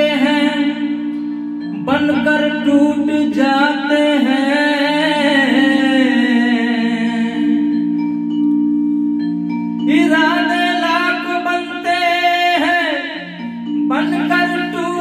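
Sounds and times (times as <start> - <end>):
bell-like keyboard melody: 0.0 - 15.0
held low keyboard chords: 0.0 - 15.0.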